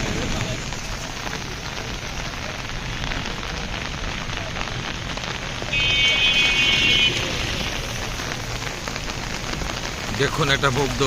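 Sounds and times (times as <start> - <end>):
heavy rain pouring on street: 0.0 - 11.0.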